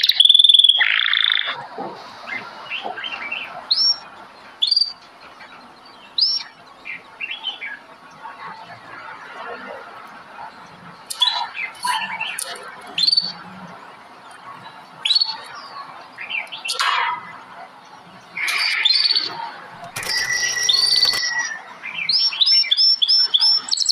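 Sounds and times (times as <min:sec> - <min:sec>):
songbirds chirping: 0:00.0 - 0:23.9.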